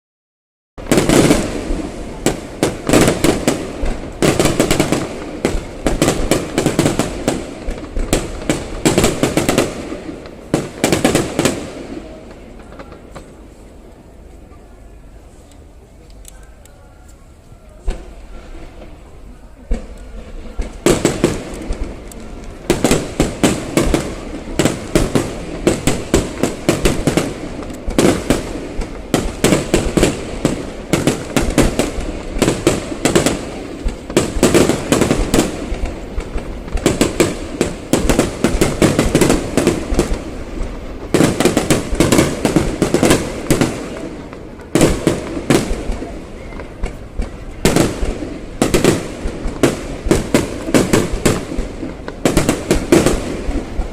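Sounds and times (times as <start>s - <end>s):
fireworks bangs and crackles: 0.8s - 53.9s.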